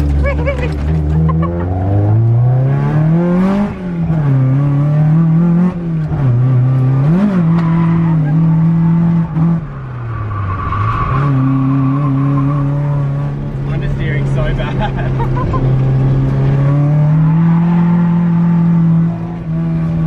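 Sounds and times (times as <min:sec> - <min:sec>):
car engine revving hard: 0:01.1 - 0:09.7, 0:11.1 - 0:20.0.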